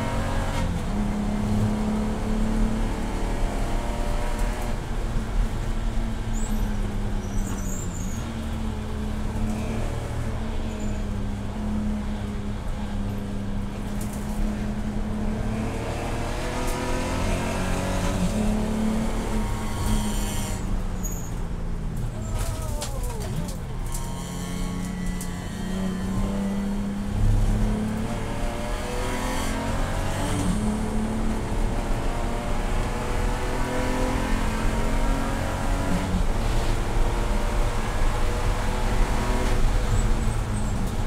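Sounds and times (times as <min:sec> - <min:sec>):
race car engine drone: 0:00.0 - 0:21.2, 0:21.8 - 0:41.0.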